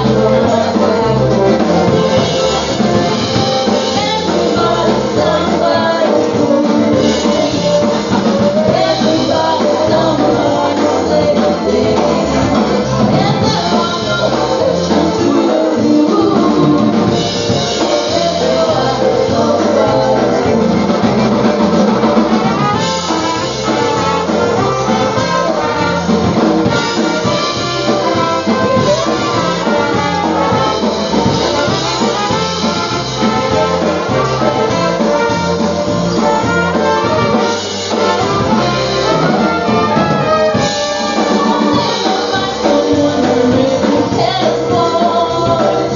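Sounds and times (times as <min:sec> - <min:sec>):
polka band playing: 0:00.0 - 0:45.9.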